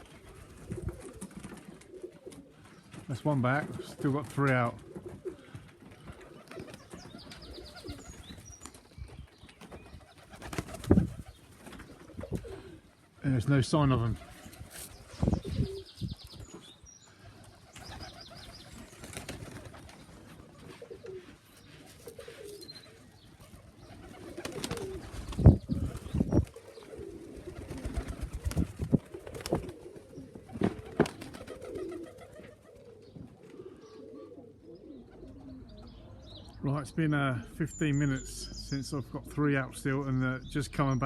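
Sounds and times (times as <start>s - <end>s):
pigeons cooing: 0.0s - 36.6s.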